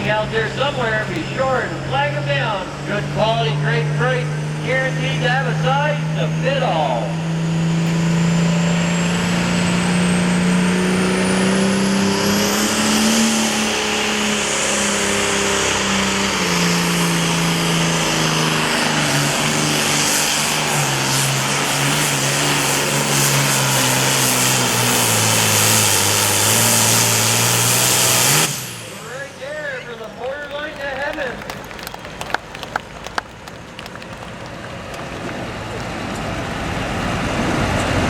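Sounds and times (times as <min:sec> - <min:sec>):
diesel engine under load: 0:00.0 - 0:38.0.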